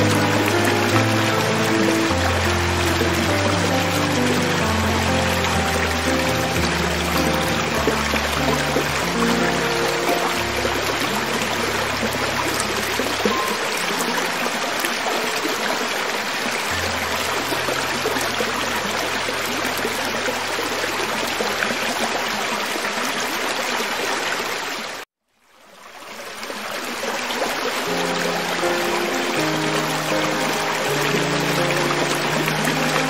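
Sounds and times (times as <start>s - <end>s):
water running over rocks: 0.0s - 33.0s.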